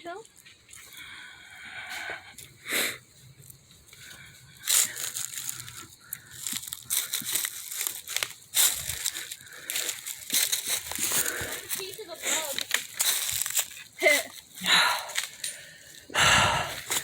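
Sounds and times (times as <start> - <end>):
footsteps crunching dry leaves: 3.4 - 17.0.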